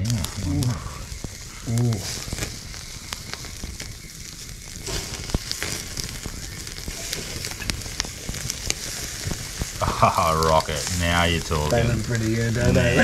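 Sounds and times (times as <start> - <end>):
fire pops and crackles: 0.0 - 13.0
squid sizzling on a grill: 0.0 - 13.0.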